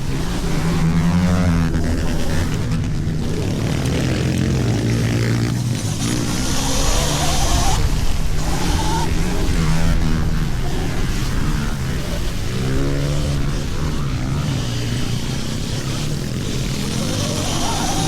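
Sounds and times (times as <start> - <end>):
small motorbike engines revving: 0.0 - 18.0
wind noise: 0.0 - 18.0.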